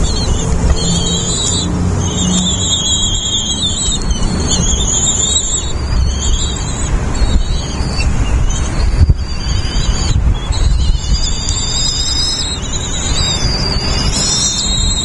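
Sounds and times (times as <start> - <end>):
nestling birds squealing: 0.0 - 15.0
wind rumble on microphone: 0.0 - 15.0.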